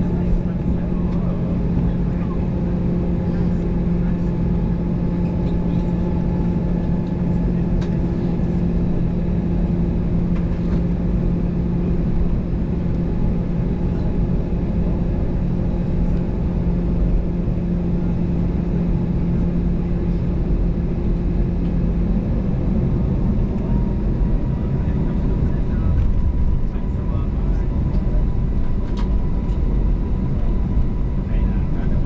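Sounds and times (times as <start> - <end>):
airplane cabin rumble: 0.0 - 32.0
jet engines humming: 0.0 - 32.0.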